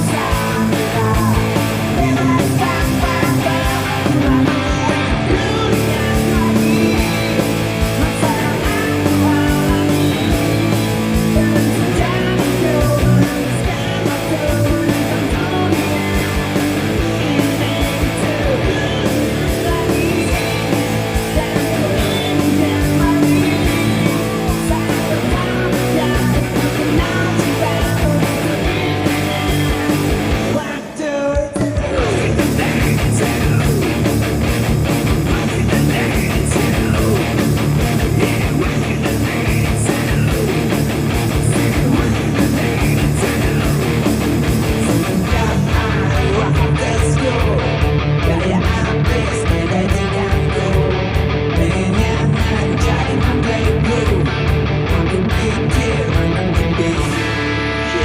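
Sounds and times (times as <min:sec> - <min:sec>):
distorted electric guitar: 0:00.0 - 0:58.0
recorded metal song with drums: 0:00.0 - 0:58.0.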